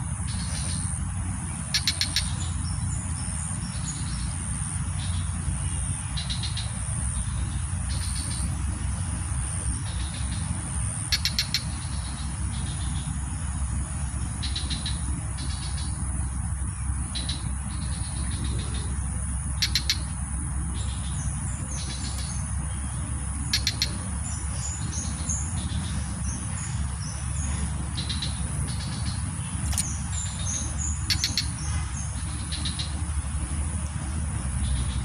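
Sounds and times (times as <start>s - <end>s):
high insect whine: 0.0s - 35.0s
insects chirping: 0.0s - 35.0s
small birds calling: 0.0s - 35.0s.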